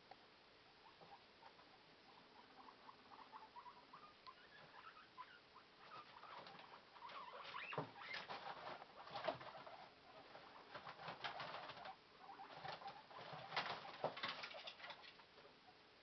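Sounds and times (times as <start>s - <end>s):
guinea pigs squeaking: 0.8s - 15.8s
guinea pigs scurrying on bedding: 1.0s - 15.6s.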